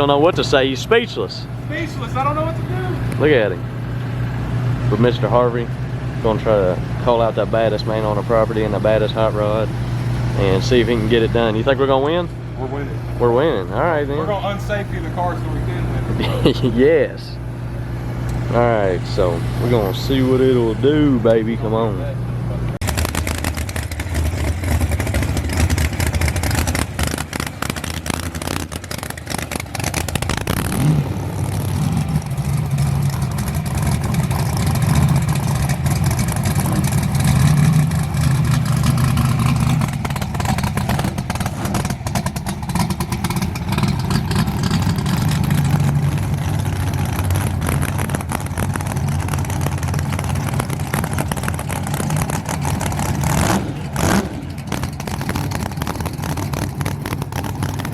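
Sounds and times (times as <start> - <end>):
car engine running loudly: 0.0 - 57.9
deep drone: 0.0 - 57.9.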